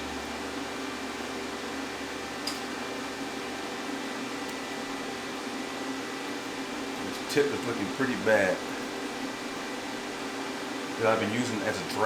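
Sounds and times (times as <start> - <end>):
cooling fan whirring: 0.0 - 12.0.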